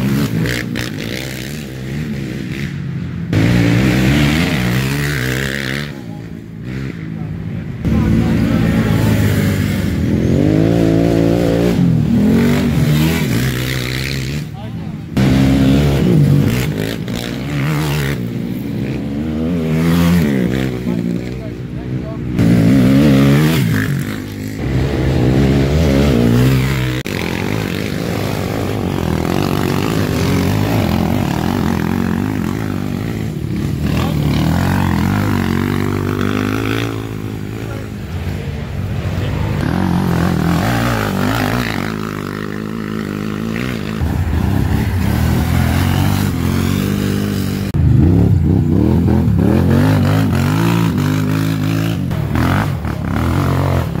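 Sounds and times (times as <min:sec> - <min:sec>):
quad engines revving passing by: 0:00.0 - 0:54.0.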